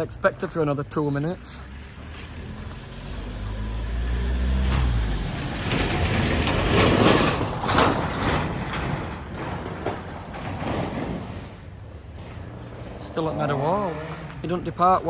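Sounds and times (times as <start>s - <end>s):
truck driving past: 1.4s - 14.9s.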